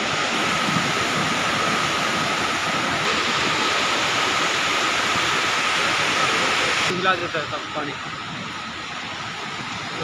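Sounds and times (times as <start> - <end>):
rushing floodwater: 0.0 - 10.0.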